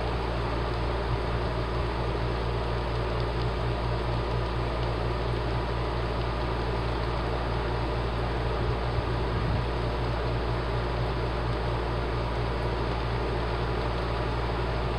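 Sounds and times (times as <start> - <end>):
low even hum: 0.0 - 14.9.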